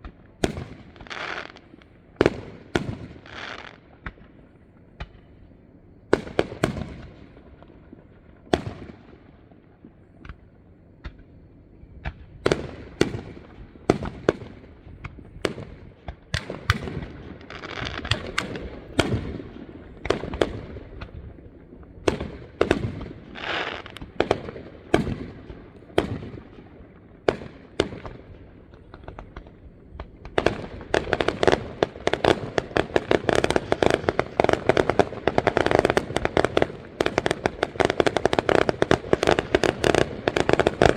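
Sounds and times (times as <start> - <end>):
fireworks bangs and crackling: 0.0 - 5.4, 6.1 - 11.3, 12.0 - 40.9.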